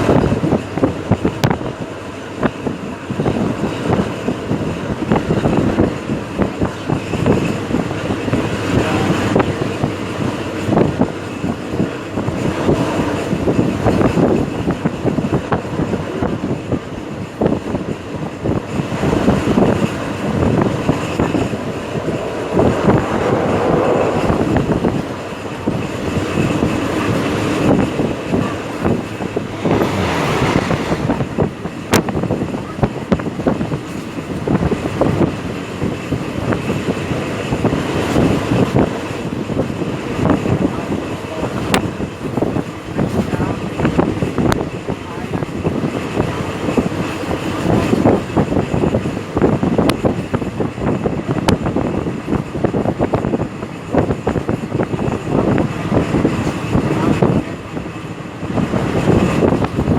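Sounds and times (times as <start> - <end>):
train rattling and clattering: 0.0 - 59.9
wind buffeting microphone: 0.0 - 59.9.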